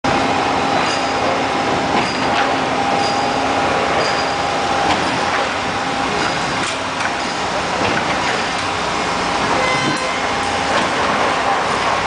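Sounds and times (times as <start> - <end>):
machinery drone: 0.1 - 12.0.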